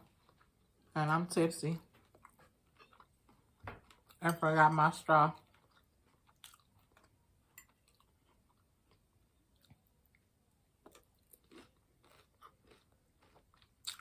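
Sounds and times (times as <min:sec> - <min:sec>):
chewing and crunching food: 0:00.0 - 0:01.0, 0:01.8 - 0:14.0.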